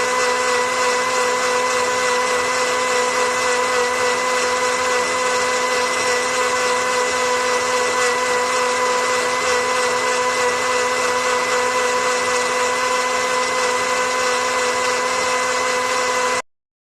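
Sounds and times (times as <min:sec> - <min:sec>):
electric blender running: 0:00.0 - 0:16.5.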